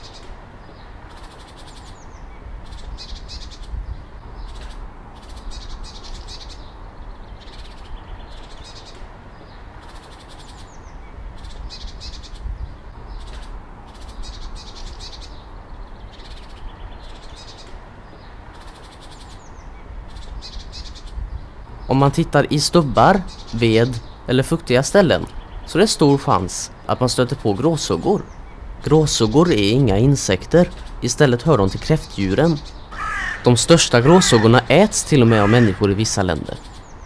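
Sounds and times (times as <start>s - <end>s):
low rumble and hiss: 0.0s - 37.0s
songbird singing: 0.0s - 37.0s.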